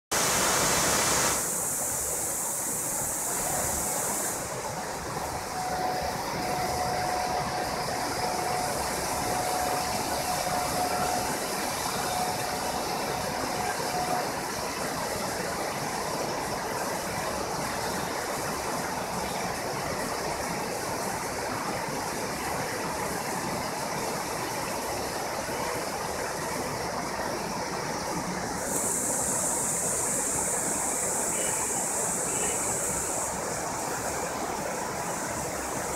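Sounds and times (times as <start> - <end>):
faint steady tone: 0.2 - 20.9, 22.4 - 35.9.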